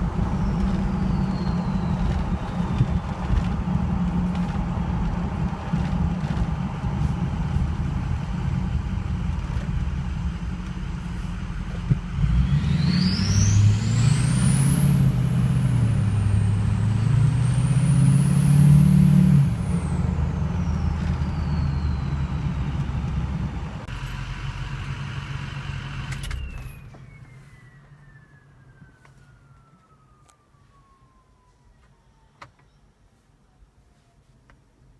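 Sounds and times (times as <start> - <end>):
diesel engine idling and revving: 0.0 - 28.4.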